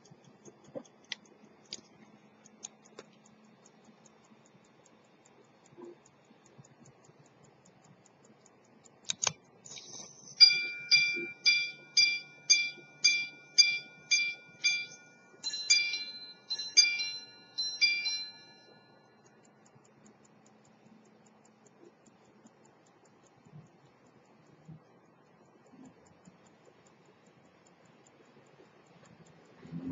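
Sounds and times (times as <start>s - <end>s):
faint watch ticking: 0.0s - 29.9s
mechanism whirring: 0.0s - 29.9s.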